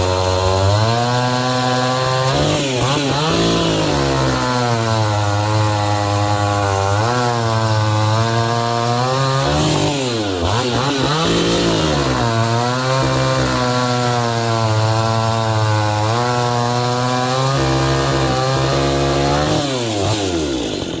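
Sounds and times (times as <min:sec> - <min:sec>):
chainsaw running at high revs: 0:00.0 - 0:21.0.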